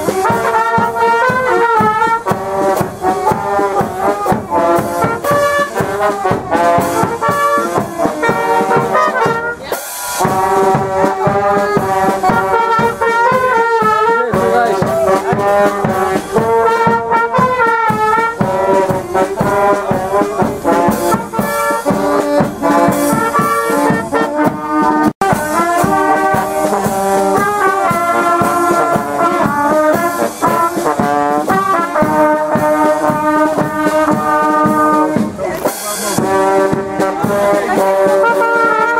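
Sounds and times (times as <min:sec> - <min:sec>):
brass band playing: 0:00.0 - 0:38.9.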